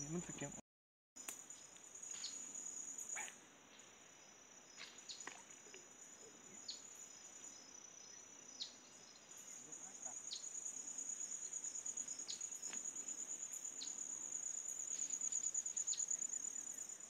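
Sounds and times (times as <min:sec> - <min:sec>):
high-pitched insect chorus: 0:01.2 - 0:17.0
short insect chirps: 0:01.2 - 0:17.0.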